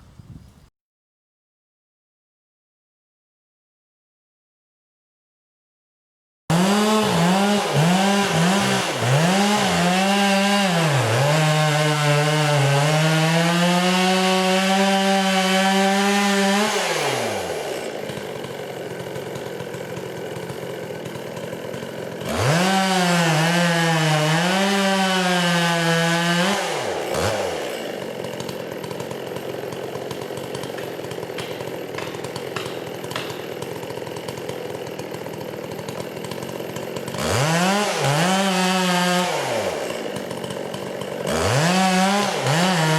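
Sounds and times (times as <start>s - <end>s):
chainsaw cutting wood: 6.5s - 42.9s.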